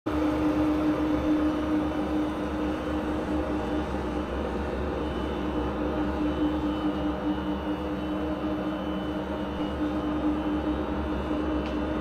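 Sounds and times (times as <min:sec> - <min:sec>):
steady machine hum: 0:00.1 - 0:12.0.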